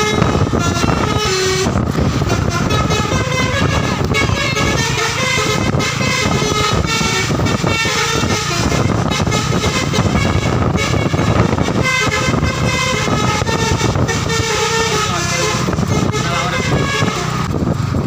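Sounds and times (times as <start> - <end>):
multi-tone bus horn melody: 0.0 - 18.0
steady low rumble: 0.0 - 18.0.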